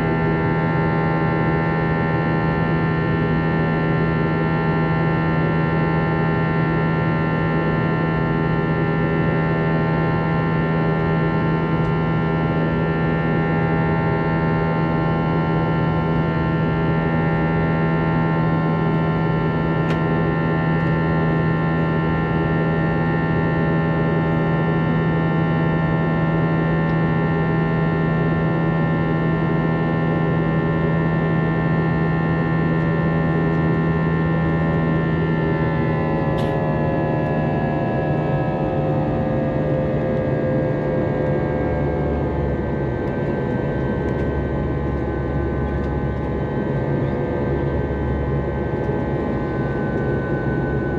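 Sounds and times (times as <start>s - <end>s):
jet engines whining in cabin: 0.0s - 50.9s.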